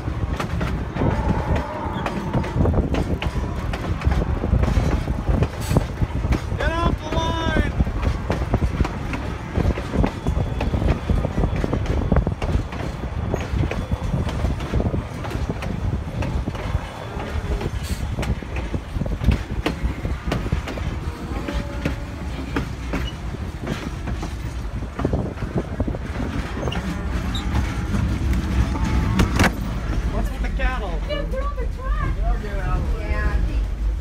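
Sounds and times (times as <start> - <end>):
train car rumbling on track: 0.0 - 34.0
wheels clacking on rails: 0.0 - 34.0.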